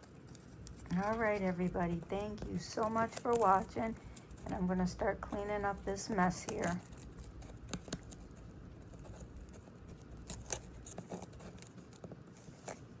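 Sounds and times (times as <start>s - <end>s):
light clicks and scratches: 0.0s - 13.0s
low room background: 0.0s - 13.0s.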